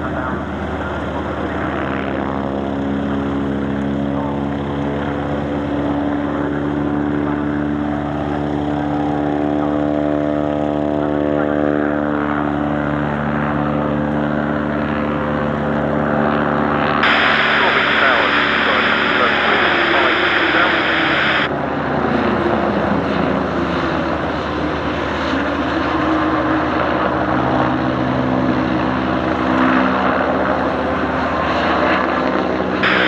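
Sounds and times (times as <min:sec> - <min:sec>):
aircraft engine droning: 0:00.0 - 0:33.0.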